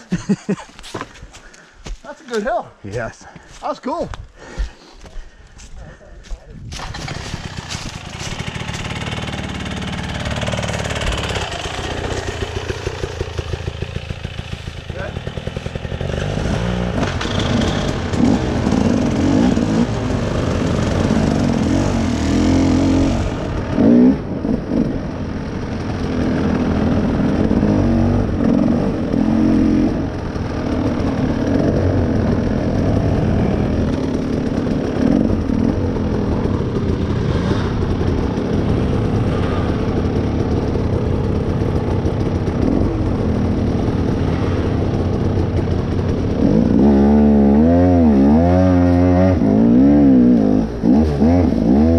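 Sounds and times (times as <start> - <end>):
off-road vehicle engine revving: 6.8 - 51.9.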